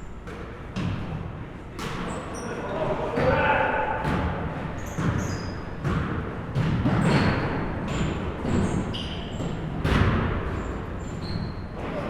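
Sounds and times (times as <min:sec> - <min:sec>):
basketballs bouncing on gym floor: 0:00.2 - 0:02.2, 0:03.1 - 0:12.0
sneaker squeaks: 0:01.8 - 0:06.0, 0:06.6 - 0:12.0.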